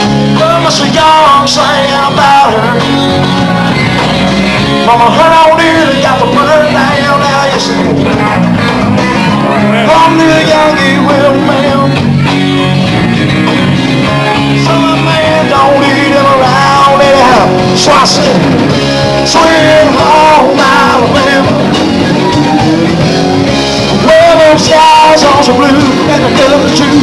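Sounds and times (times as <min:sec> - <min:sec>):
person singing: 0:00.0 - 0:12.8, 0:14.0 - 0:27.0
live rock band playing: 0:00.0 - 0:27.0.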